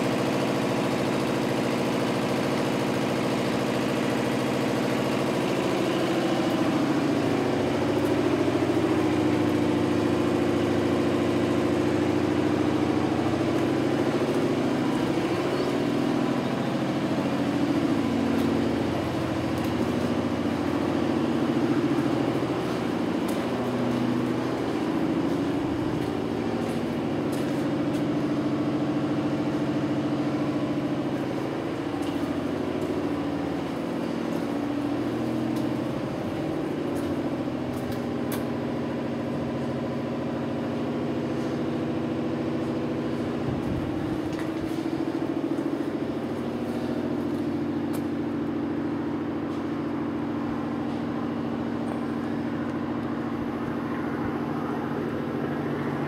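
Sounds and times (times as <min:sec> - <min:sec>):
machinery drone: 0:00.0 - 0:56.0.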